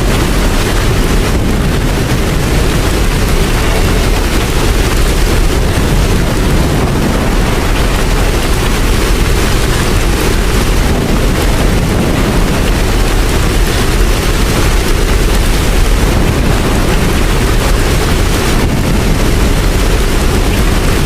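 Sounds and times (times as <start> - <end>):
loud rain: 0.0 - 21.0.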